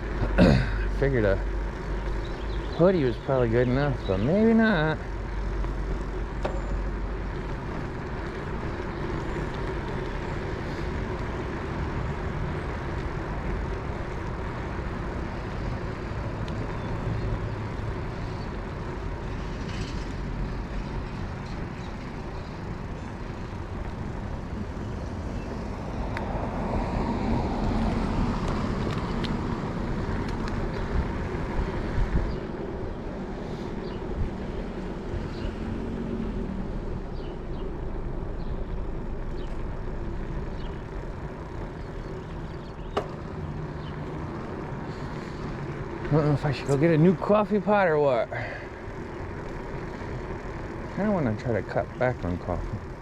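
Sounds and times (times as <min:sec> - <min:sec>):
bicycle road and wind rumble: 0:00.0 - 0:53.0.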